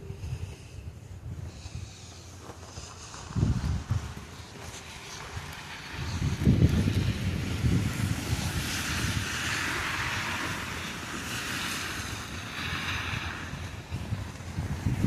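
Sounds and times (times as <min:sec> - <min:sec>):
steady hiss: 0:00.0 - 0:15.0
wind buffeting microphone: 0:00.0 - 0:15.0.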